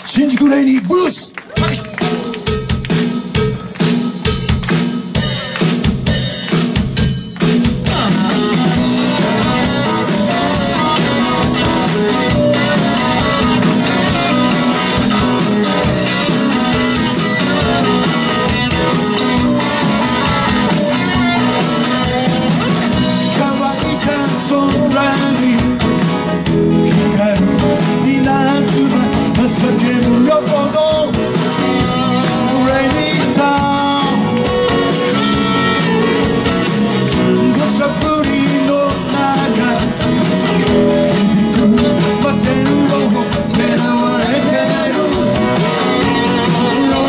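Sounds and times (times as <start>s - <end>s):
live rock band playing blues: 1.4s - 47.0s.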